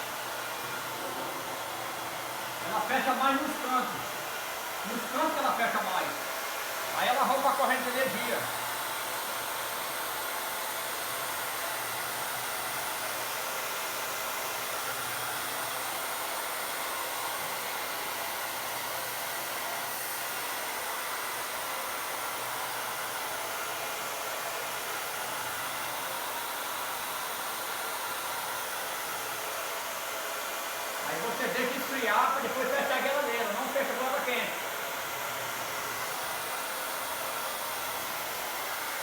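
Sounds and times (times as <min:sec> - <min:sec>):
hot-air blower running: 0:00.0 - 0:39.0.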